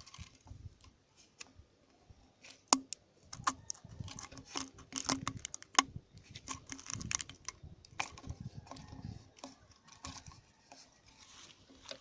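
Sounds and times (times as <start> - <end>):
handling clicks and rustles: 0.0 - 1.6, 2.4 - 12.0.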